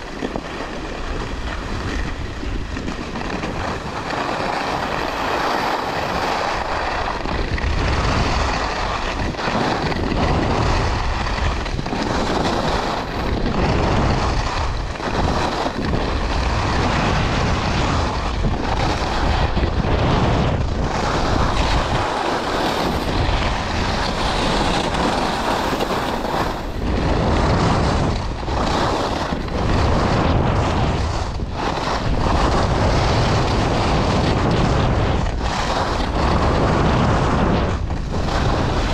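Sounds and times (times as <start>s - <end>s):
skis scraping on packed snow: 0.0s - 38.9s
wind buffeting microphone: 0.0s - 38.9s.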